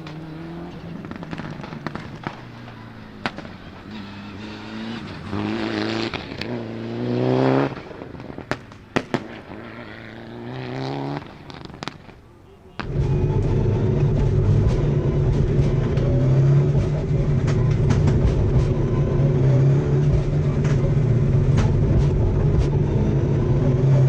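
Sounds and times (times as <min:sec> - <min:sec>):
sharp exhaust bangs: 0:00.0 - 0:12.2, 0:12.8 - 0:24.0
turbocharged engine pulling hard: 0:00.0 - 0:24.0.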